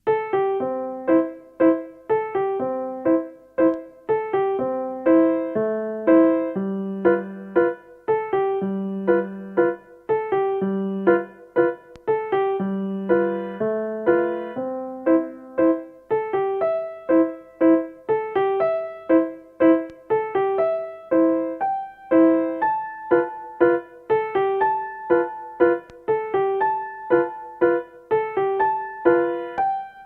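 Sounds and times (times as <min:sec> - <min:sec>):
piano melody: 0:00.0 - 0:30.0.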